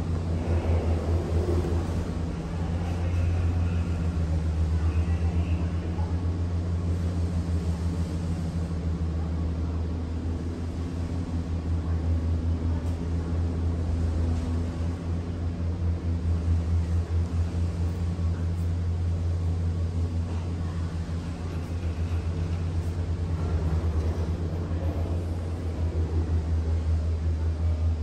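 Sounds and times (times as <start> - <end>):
gondola cabin rumble and hum: 0.0 - 28.0.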